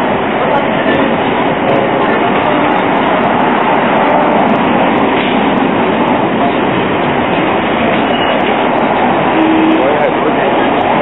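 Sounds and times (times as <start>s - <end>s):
city street noise: 0.0s - 11.0s
tram rolling on rails: 0.0s - 11.0s.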